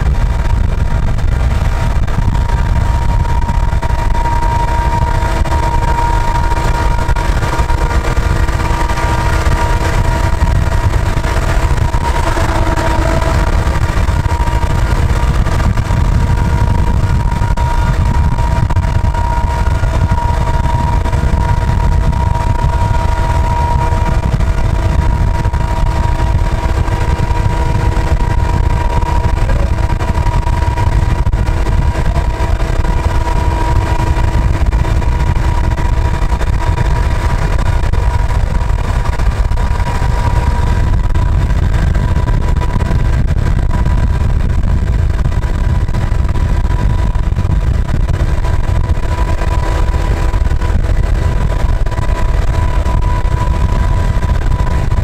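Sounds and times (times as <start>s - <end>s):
diesel locomotive running: 0.0s - 55.0s
road and wind noise: 0.0s - 55.0s
steady whine: 0.0s - 55.0s.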